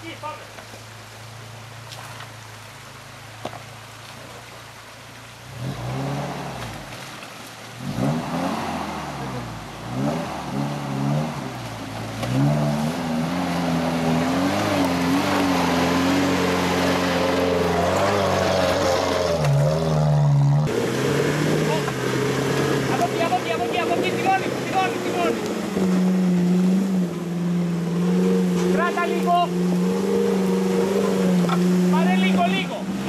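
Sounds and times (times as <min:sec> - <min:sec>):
engine revving: 0:05.5 - 0:07.0, 0:07.8 - 0:33.0.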